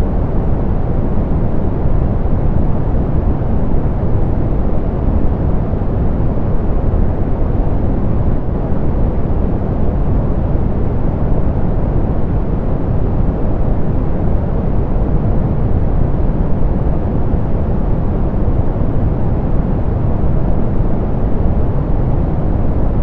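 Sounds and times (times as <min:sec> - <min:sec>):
deep pink noise hiss: 0:00.0 - 0:23.0.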